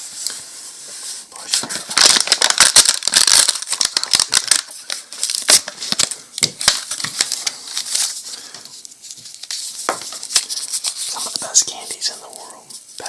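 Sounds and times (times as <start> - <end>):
plastic and cardboard packaging crackling: 0.0 - 13.0.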